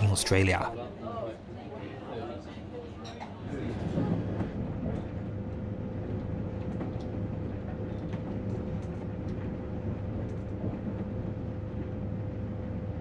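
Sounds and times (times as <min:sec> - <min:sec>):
train carriage rumble: 0:00.0 - 0:00.8, 0:01.8 - 0:13.0
constant hum: 0:02.2 - 0:13.0.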